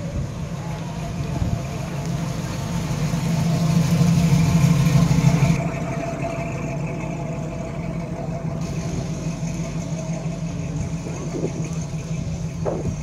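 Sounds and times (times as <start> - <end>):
car engine driving off: 0.0 - 13.0.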